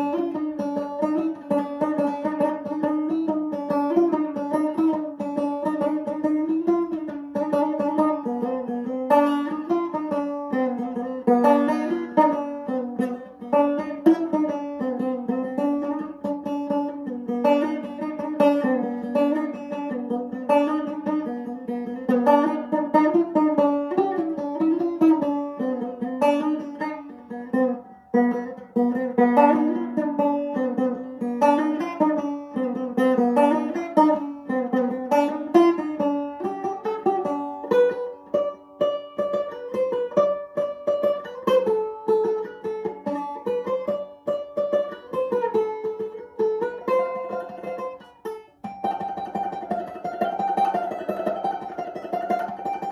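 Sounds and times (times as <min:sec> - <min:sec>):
banjo plucked: 0:00.0 - 0:52.9.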